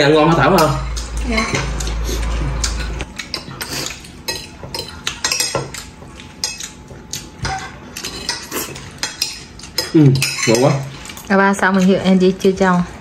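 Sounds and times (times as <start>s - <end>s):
forks clinking on plates: 0.2s - 2.0s, 2.6s - 12.0s.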